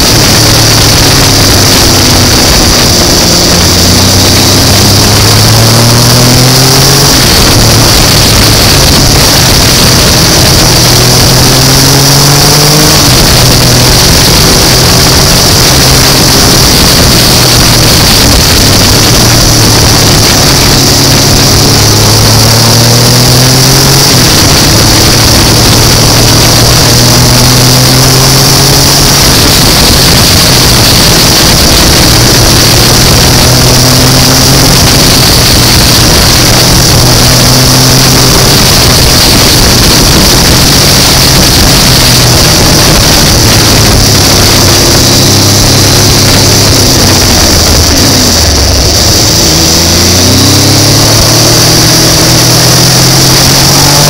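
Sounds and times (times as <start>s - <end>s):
constant loud hiss: 0.0s - 54.0s
motorcycle engine accelerating: 0.0s - 54.0s.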